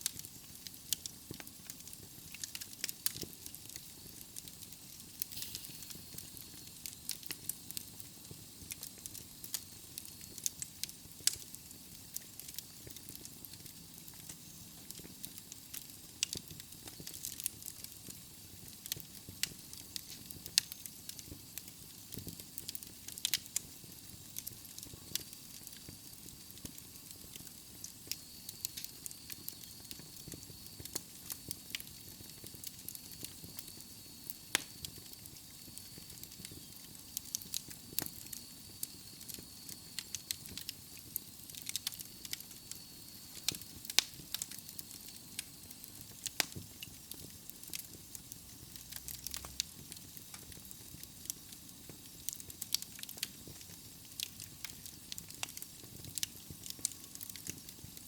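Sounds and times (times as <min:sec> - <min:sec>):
fire hissing: 0:00.0 - 0:58.0
logs crackling and popping: 0:00.0 - 0:58.0.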